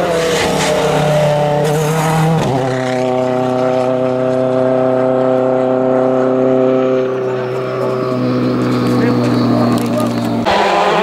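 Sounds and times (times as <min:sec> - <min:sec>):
rally car engine droning: 0:00.0 - 0:11.0.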